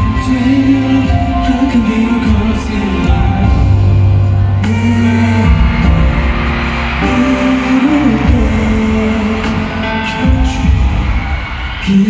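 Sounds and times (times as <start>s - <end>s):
slow live concert song: 0.0s - 12.0s.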